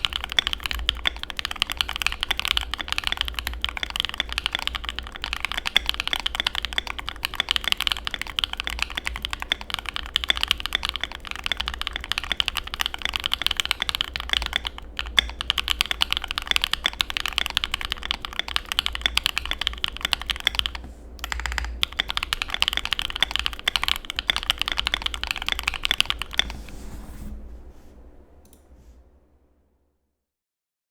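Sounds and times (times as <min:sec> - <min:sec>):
mechanical keyboard typing: 0:00.0 - 0:26.6.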